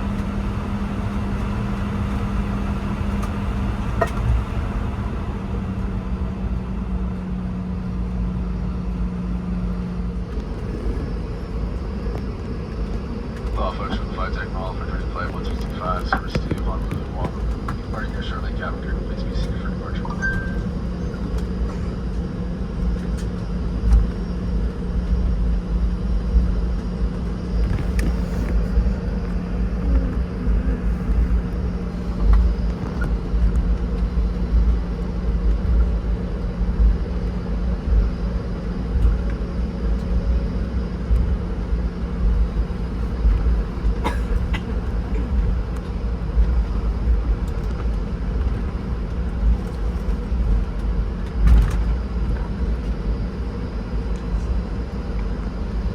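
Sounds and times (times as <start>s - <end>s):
jet engines humming: 0.0s - 55.9s
low rumble: 0.0s - 55.9s.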